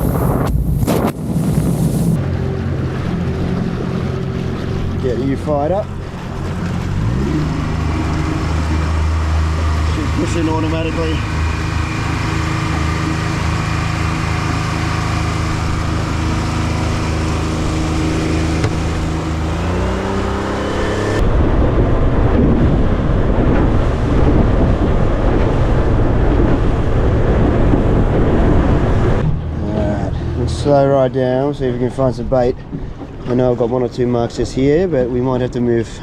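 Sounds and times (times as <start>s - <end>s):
outboard motor running: 0.0s - 35.8s
wind and water rushing: 0.0s - 36.0s.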